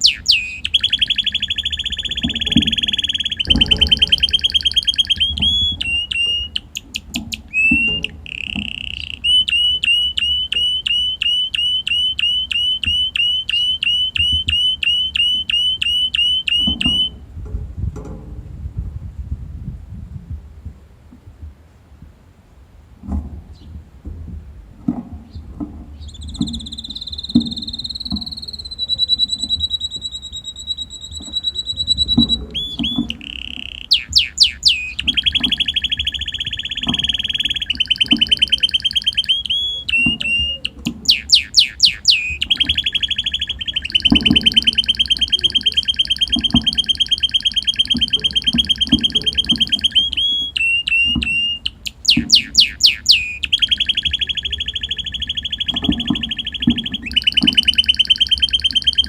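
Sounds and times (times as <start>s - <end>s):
canary singing trills: 0.0s - 17.2s, 26.0s - 59.0s.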